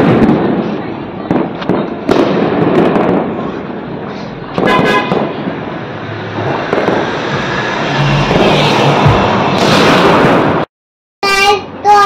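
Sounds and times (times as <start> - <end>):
distant firecracker bangs: 0.0 - 10.7.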